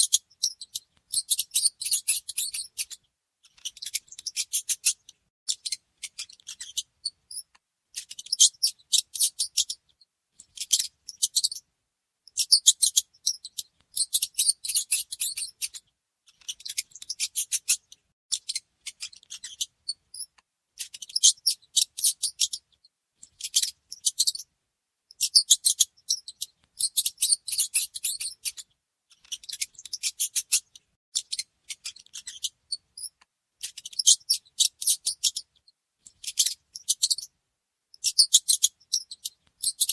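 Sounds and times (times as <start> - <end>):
mouse squeaking: 0.0 - 11.6, 12.3 - 24.5, 25.1 - 37.3, 37.9 - 39.9.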